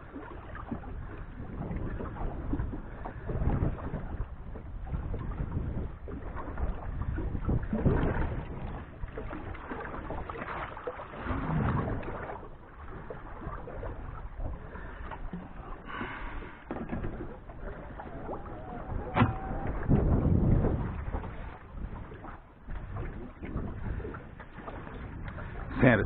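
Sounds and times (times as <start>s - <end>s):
water noise: 0.0s - 26.0s
wind: 0.0s - 26.0s.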